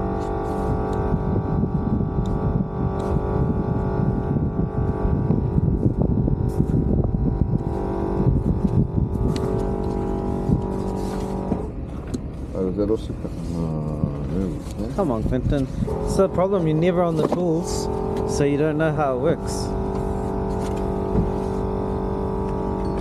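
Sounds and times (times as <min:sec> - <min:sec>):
motor running steadily: 0:00.0 - 0:23.0
rough fluttering low rumble: 0:00.0 - 0:23.0.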